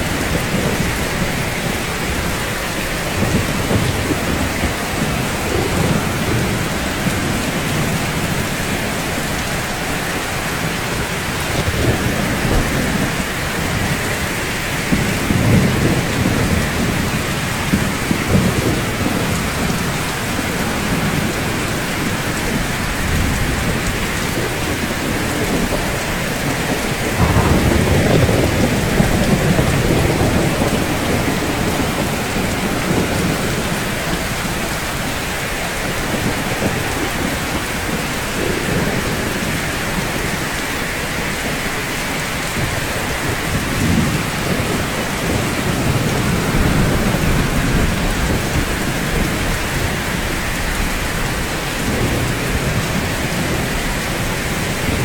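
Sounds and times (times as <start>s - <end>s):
thunder rolling: 0.0s - 41.8s, 42.4s - 55.0s
rain on rooftops: 0.0s - 55.0s.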